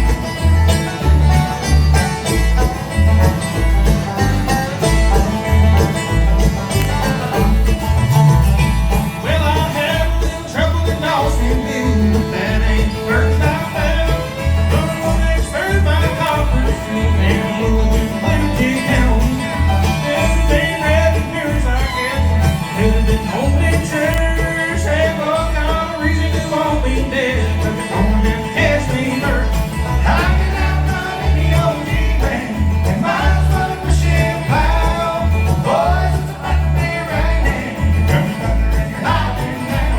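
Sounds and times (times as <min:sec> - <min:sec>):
bluegrass band playing: 0:00.0 - 0:39.9.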